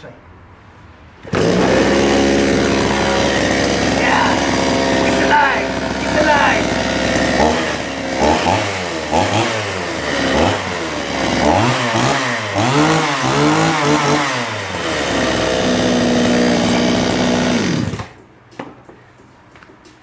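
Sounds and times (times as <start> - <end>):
chainsaw revving: 1.2 - 18.2.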